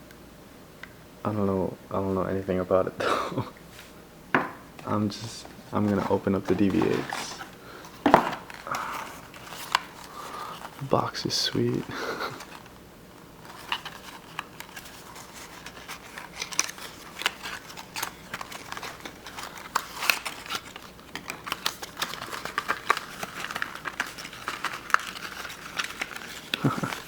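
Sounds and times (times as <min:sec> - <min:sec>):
plastic and cardboard crinkling: 0:04.8 - 0:27.0.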